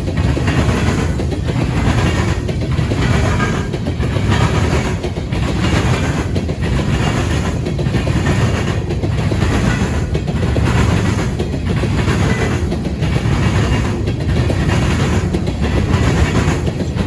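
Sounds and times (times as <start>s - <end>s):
train wheels clattering on track: 0.0s - 17.0s.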